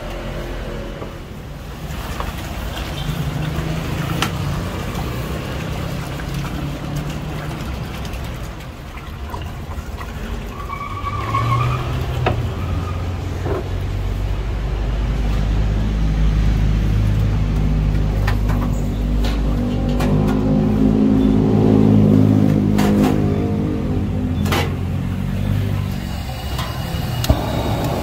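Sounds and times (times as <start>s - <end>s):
traffic engine hum: 0.0s - 28.0s.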